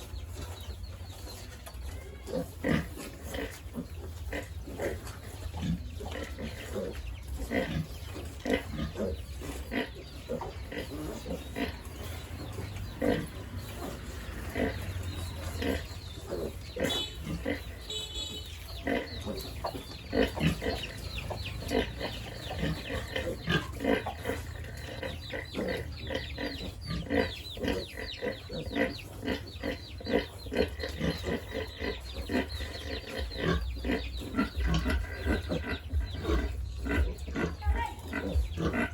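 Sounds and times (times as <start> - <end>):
pigs grunting: 1.9 - 38.9.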